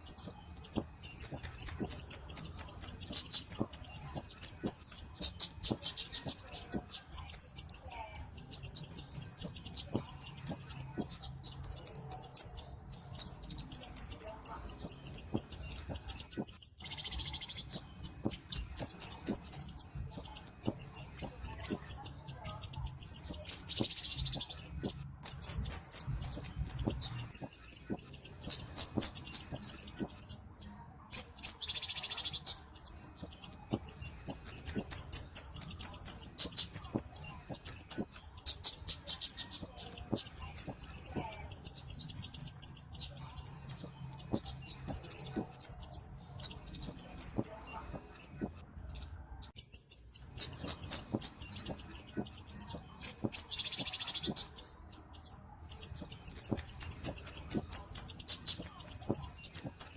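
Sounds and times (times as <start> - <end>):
flowerpecker singing high notes: 0.0 - 59.9.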